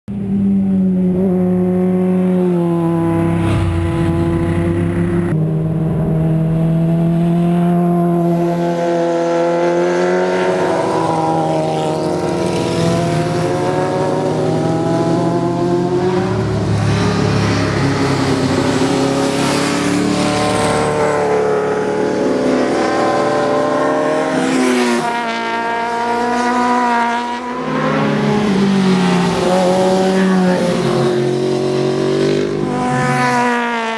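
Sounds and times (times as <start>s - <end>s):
motorcycle engines revving: 0.1s - 33.9s.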